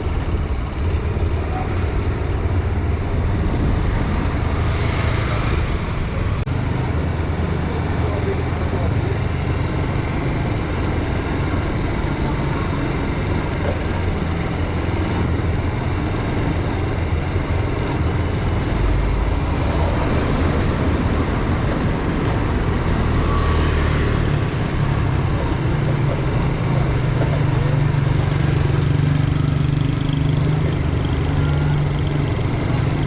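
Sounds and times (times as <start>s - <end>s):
traffic noise: 0.0s - 33.0s
vehicle engine running: 0.0s - 33.0s.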